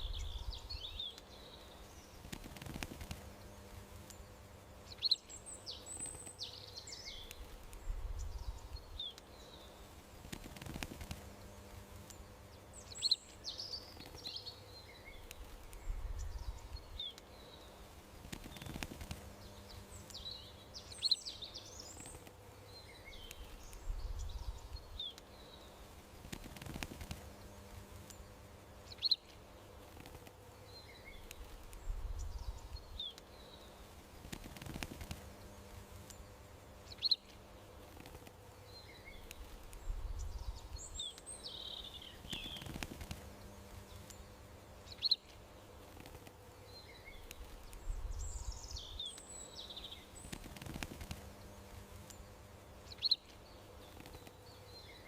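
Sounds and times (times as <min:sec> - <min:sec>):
faint steady hum: 0:00.0 - 0:55.0
songbirds chirping and trilling: 0:00.0 - 0:55.0.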